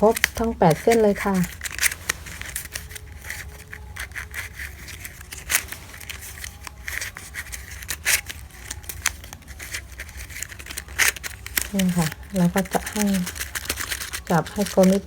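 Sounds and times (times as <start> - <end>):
ribbon rustling and crinkling: 0.0 - 15.0.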